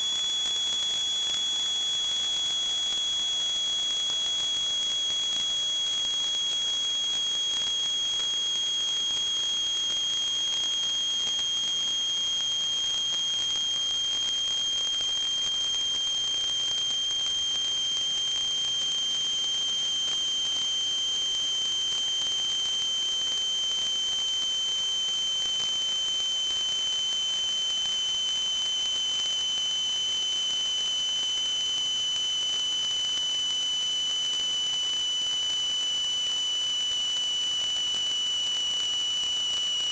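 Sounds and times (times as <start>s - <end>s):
high-pitched whistle: 0.0s - 39.9s.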